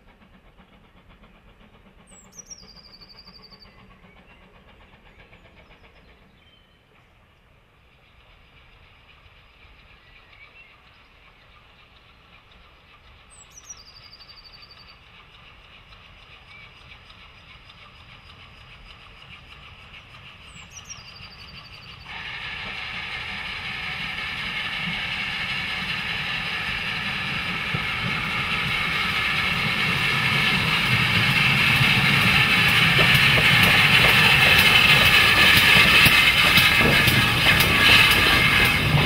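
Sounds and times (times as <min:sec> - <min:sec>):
sharp clicks of train wheels: 0:00.0 - 0:39.0
steam locomotive passing: 0:00.0 - 0:39.0.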